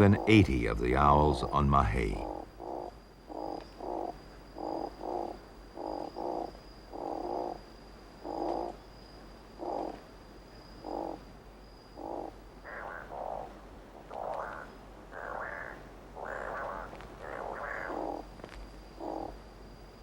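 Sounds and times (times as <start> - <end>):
owl rasping croaking call: 0.0 - 7.6, 8.2 - 8.8, 9.6 - 10.0, 10.8 - 11.3, 11.9 - 19.4.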